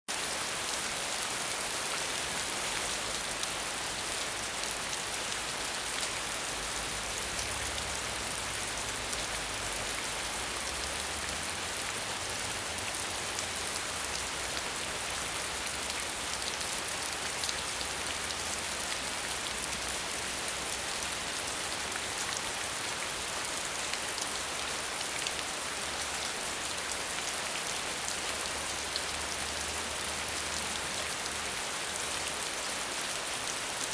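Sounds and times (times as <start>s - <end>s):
rain falling on leaves: 0.1s - 33.9s.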